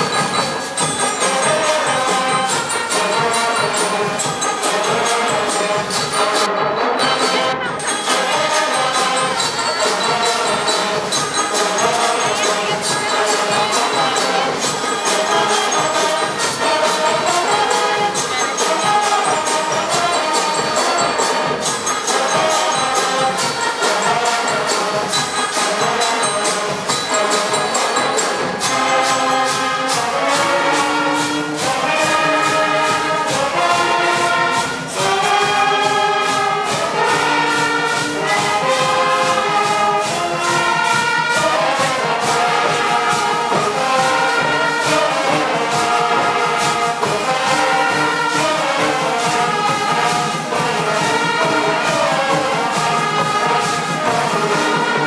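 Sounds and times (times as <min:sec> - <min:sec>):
band with brass playing: 0:00.0 - 0:55.0.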